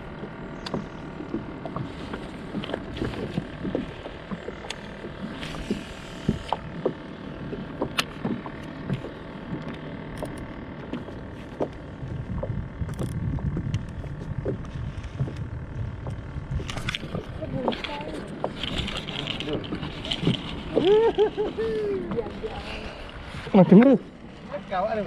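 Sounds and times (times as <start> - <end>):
faint steady hum: 0.0 - 25.0
water lapping against boat hull: 0.0 - 25.0.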